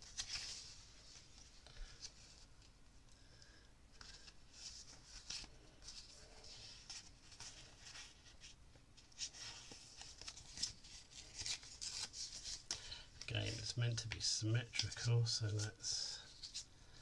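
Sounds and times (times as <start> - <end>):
paper rustling and crackling: 0.0 - 2.8, 3.9 - 17.0.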